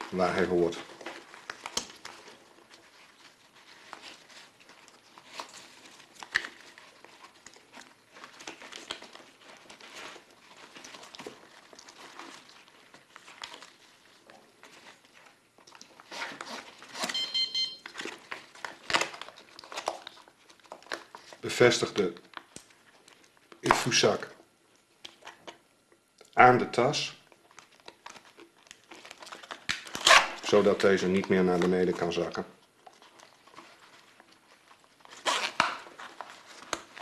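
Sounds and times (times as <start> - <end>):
plastic bag crinkling: 0.0 - 25.6, 27.2 - 37.0.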